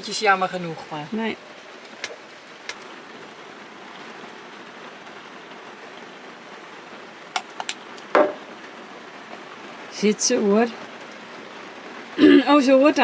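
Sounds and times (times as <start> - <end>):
rain on a caravan roof: 0.0 - 13.0.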